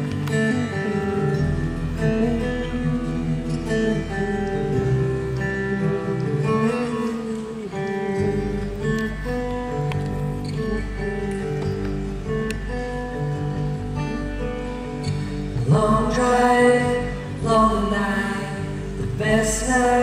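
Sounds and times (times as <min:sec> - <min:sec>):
live band playing: 0:00.0 - 0:20.0
strummed acoustic guitar: 0:00.0 - 0:20.0.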